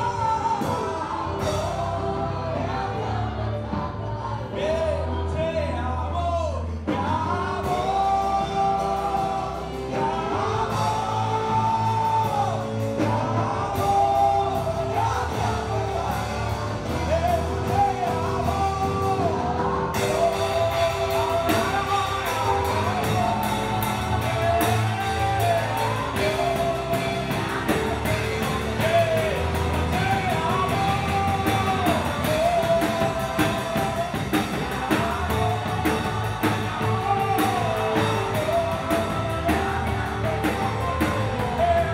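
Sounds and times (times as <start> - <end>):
drum kit with cymbals: 0.0 - 5.1, 6.8 - 41.9
band with bass and keyboard: 0.0 - 41.9
person singing: 0.0 - 41.9.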